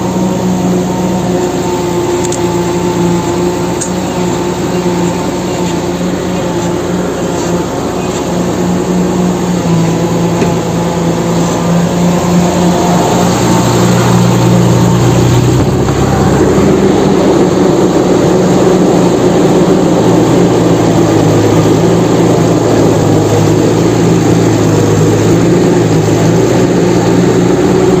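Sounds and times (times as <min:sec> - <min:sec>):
engine-like drone: 0:00.0 - 0:28.0.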